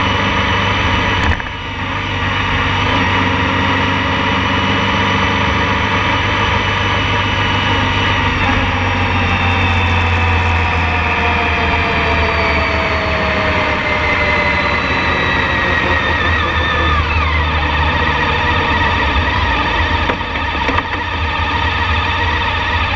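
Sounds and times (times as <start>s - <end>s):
engine whine falling in pitch: 0.0s - 22.9s
vehicle engine and road noise: 0.0s - 22.9s.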